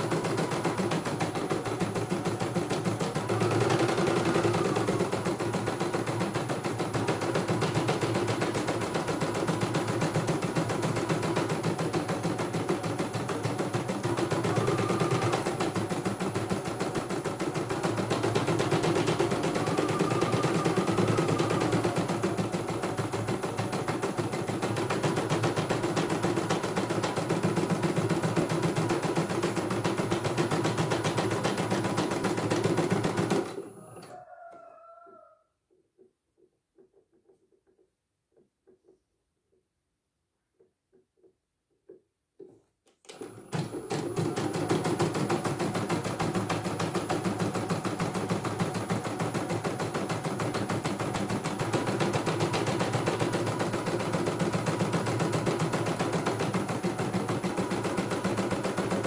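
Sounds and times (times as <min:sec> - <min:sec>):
embroidery machine stitching: 0:00.0 - 0:34.1, 0:42.4 - 0:59.0.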